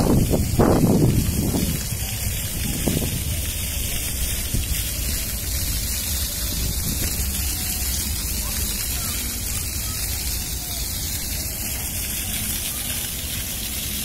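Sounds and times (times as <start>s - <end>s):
wind buffeting microphone: 0.0s - 12.6s
fountain splashing into pool: 0.0s - 14.0s.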